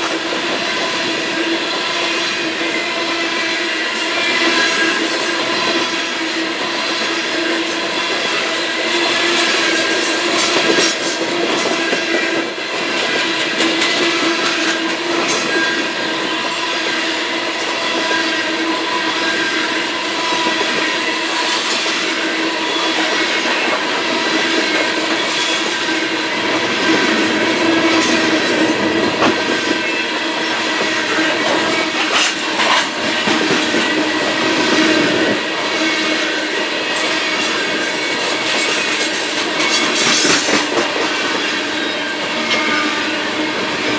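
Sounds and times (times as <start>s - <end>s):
train wheels clicking over rails: 0.0s - 43.9s.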